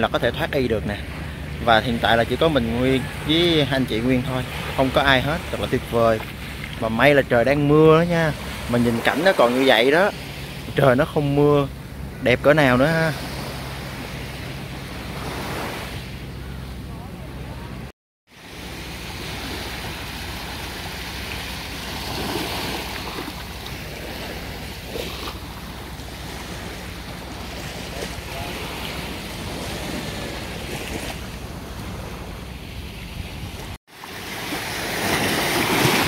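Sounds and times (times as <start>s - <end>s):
waves breaking on beach: 0.0s - 36.0s.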